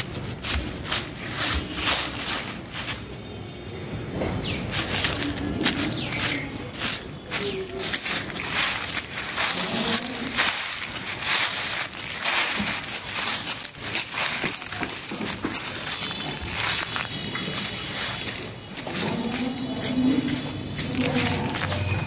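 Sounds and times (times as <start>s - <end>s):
footsteps crunching through dry leaves: 0.0s - 3.6s, 4.4s - 22.0s.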